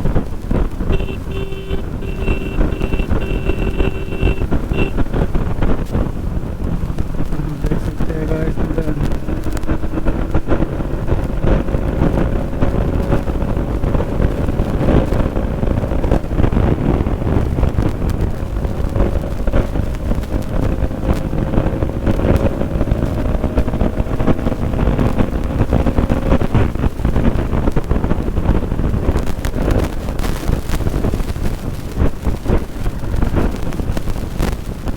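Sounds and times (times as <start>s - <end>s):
motorcycle engine revving high: 0.0s - 33.6s
wind buffeting microphone: 0.0s - 34.9s.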